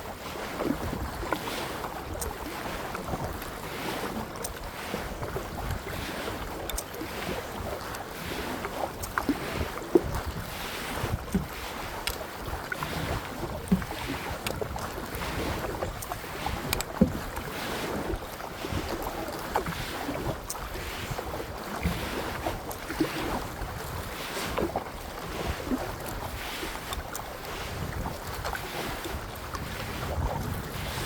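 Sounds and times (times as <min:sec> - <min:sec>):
kayak paddle splashing: 0:00.0 - 0:31.0
wind buffeting microphone: 0:05.0 - 0:31.0.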